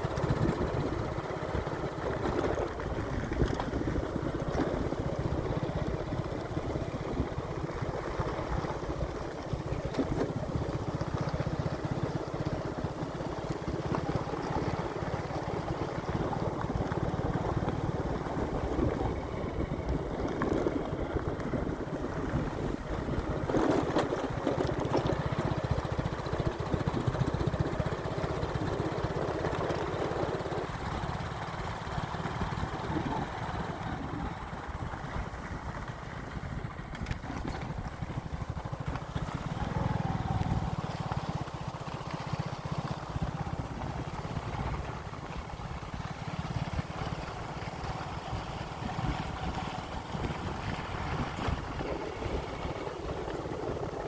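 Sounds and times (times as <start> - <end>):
motorcycle engine rumble: 0.0 - 54.0.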